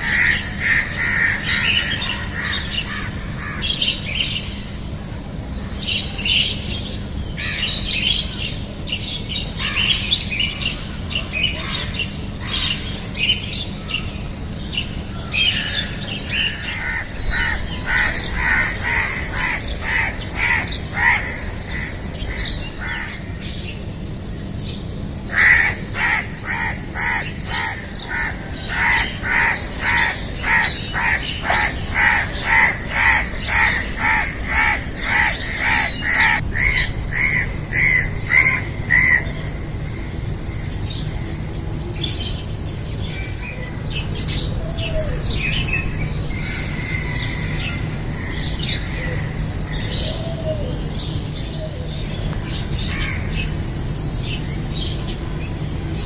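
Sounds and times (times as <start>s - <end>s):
faint chirps of other birds: 0.0s - 56.0s.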